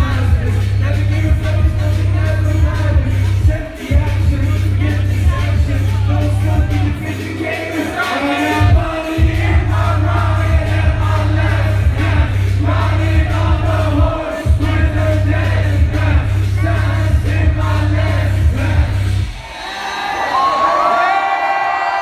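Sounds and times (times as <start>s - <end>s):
booming bass beat: 0.0s - 19.4s
sung and rapped vocals: 0.0s - 21.2s
crowd noise: 0.0s - 22.0s.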